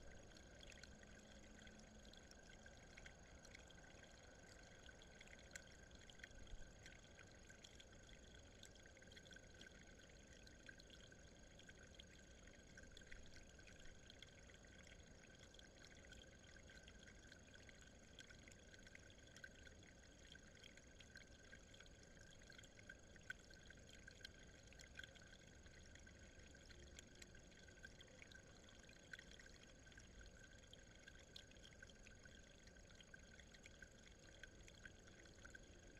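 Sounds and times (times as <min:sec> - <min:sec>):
faint steady hiss: 0:00.0 - 0:35.9
faint ticks: 0:00.0 - 0:35.9.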